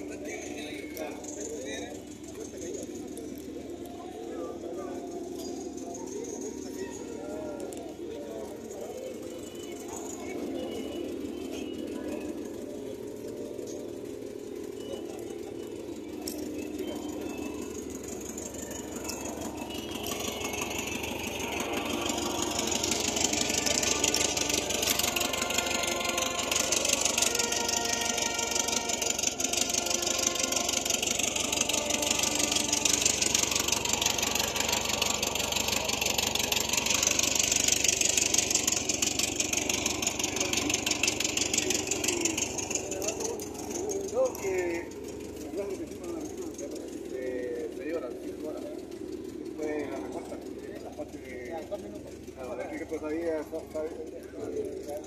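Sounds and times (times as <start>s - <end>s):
van engine idling: 0.0s - 55.0s.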